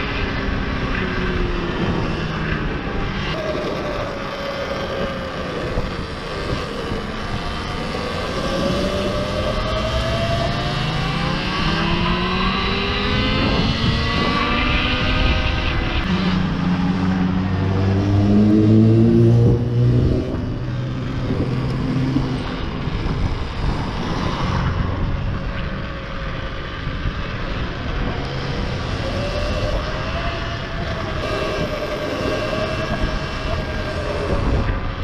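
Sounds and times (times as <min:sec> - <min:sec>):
vehicle whine rising: 0:00.0 - 0:35.0
wind and rolling noise: 0:00.0 - 0:35.0.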